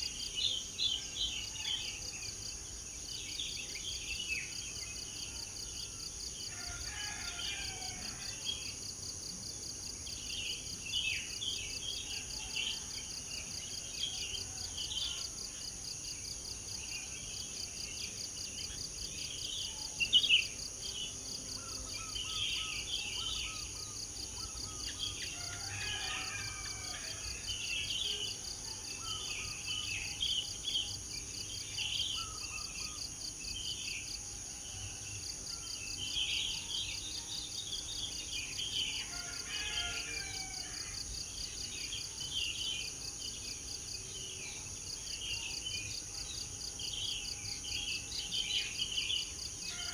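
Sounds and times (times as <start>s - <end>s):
insect chorus buzzing: 0.0s - 49.9s.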